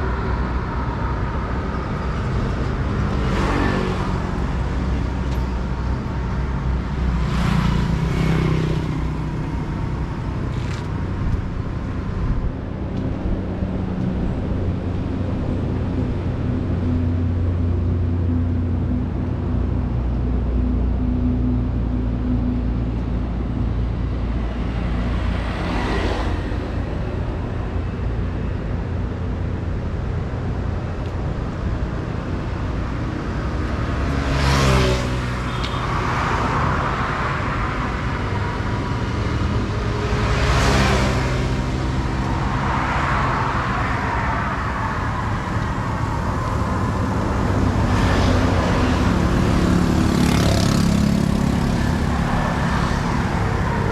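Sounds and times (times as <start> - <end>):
traffic engine rumble: 0.0 - 53.9
vehicles passing close: 0.0 - 53.9.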